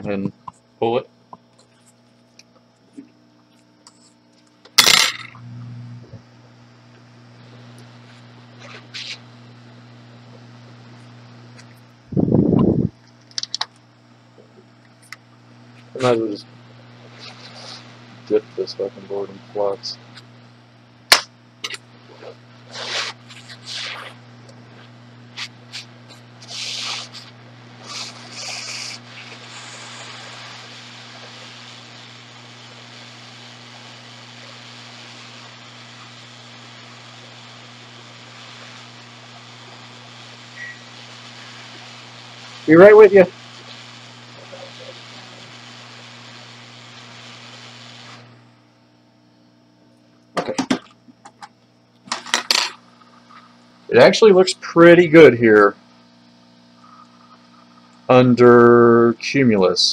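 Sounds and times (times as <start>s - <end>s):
hot-air station hissing: 0.0s - 49.4s, 50.1s - 59.9s
low steady hum: 0.0s - 59.9s.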